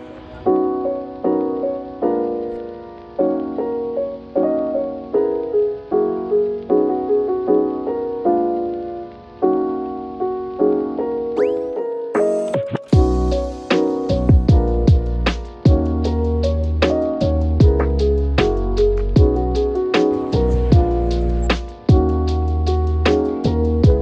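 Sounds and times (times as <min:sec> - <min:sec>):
simple keyboard melody: 0:00.0 - 0:24.0
soft keyboard chords: 0:00.0 - 0:24.0.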